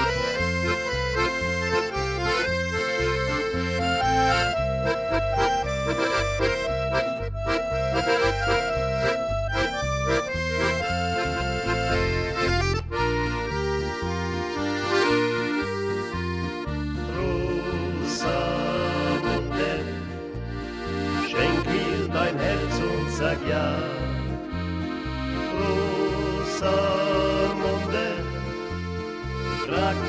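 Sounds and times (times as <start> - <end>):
accordion playing a tune: 0.0 - 30.0
steady bass beat: 0.0 - 30.0.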